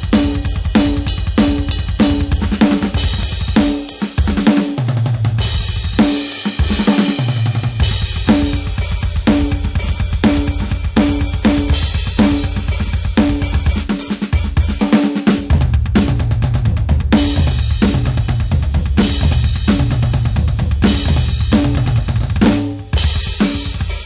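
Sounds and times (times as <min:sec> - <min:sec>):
electronic drum kit groove: 0:00.0 - 0:24.0
fast double bass drum run: 0:00.0 - 0:24.0.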